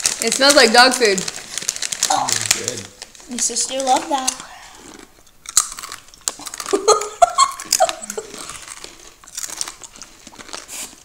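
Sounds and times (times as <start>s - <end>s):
crunchy snack being chewed: 1.3s - 2.9s, 3.6s - 11.0s.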